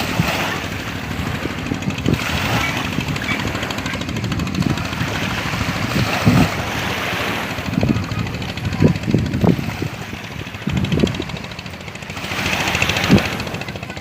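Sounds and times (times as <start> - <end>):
sea waves washing on beach: 0.0 - 14.0
wind buffeting microphone: 0.0 - 14.0.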